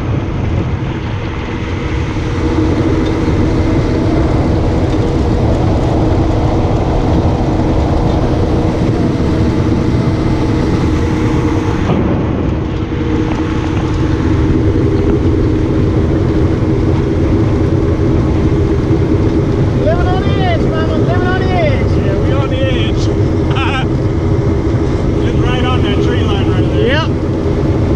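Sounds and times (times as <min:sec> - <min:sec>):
boat engine drone: 0:00.0 - 0:27.9
wind and water rushing: 0:00.0 - 0:27.9.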